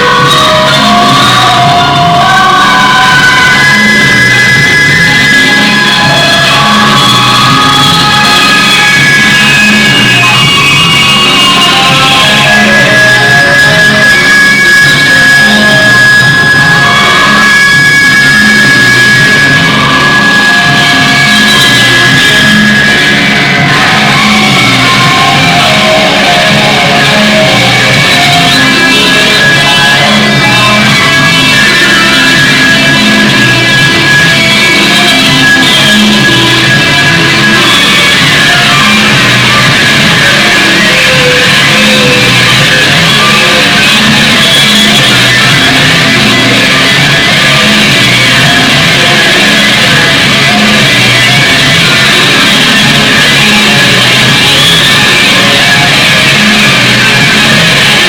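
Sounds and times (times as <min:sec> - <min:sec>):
loud guitar rock music: 0:00.0 - 0:58.0.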